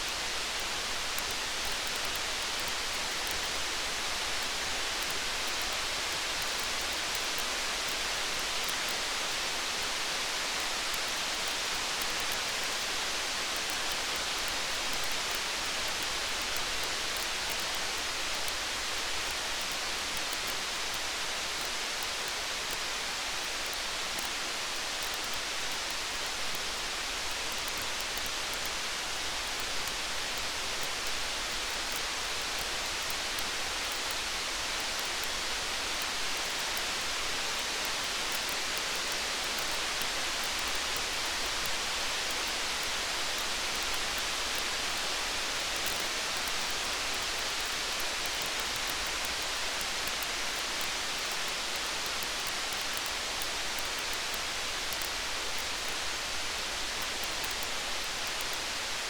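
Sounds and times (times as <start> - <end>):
faint tiny ticks: 0.0 - 59.0
rain hiss: 0.0 - 59.0.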